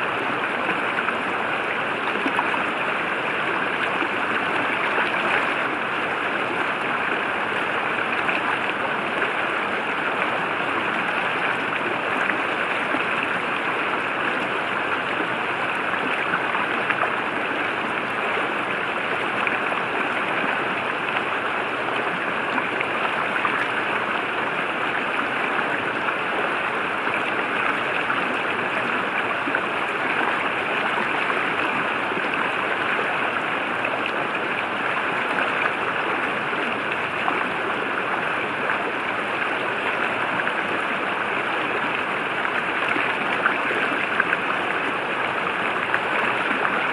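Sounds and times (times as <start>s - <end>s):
river flowing: 0.0s - 46.9s.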